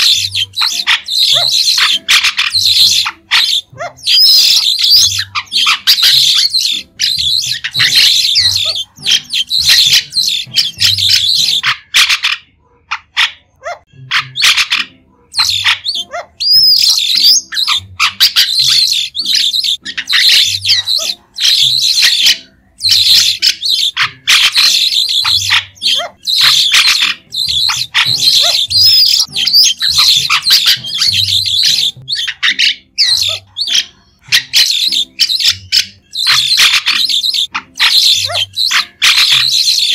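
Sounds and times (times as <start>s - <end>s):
starling chattering calls: 0.0s - 12.4s, 14.1s - 39.9s.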